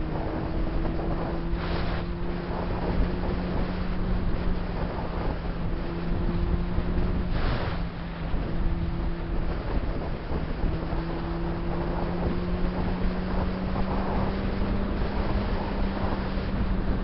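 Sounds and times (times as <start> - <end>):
motorcycle engine cruising: 0.0 - 17.0
wind rushing over microphone: 0.0 - 17.0.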